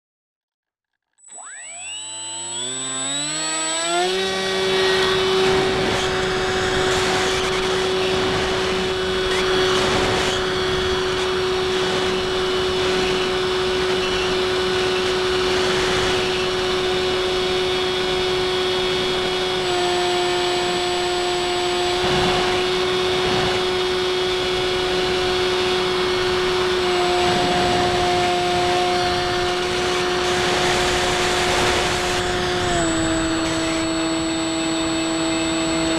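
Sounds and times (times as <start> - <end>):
electric motor and propeller whine: 1.2 - 35.9.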